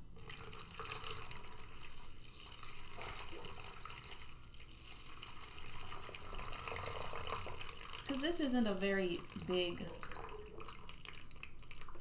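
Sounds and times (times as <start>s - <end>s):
water pouring and splashing: 0.2s - 12.0s.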